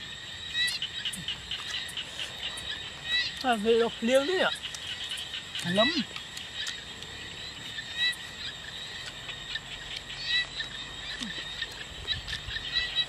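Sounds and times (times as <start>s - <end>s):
frogs chirping: 0.0s - 13.0s
high-pitched insect drone: 0.0s - 13.0s.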